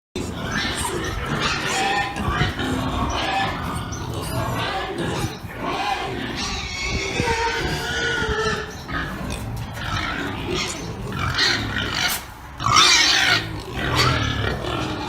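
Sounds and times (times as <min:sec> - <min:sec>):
pig calls: 0:00.2 - 0:15.0.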